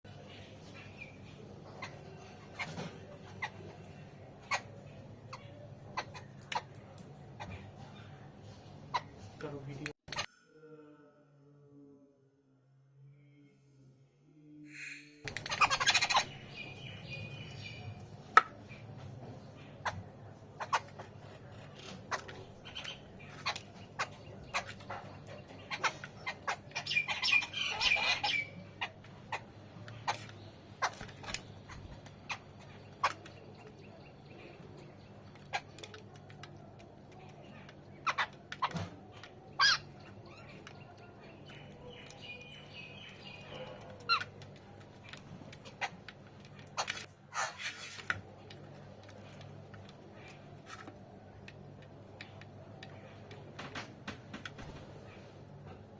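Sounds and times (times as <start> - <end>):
birds calling: 0.1 - 10.3, 15.2 - 53.6.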